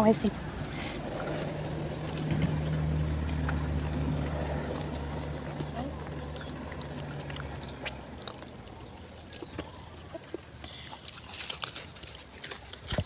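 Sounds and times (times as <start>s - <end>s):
chewing mouth sounds: 0.6s - 13.0s
fingers squelching food: 1.1s - 13.0s.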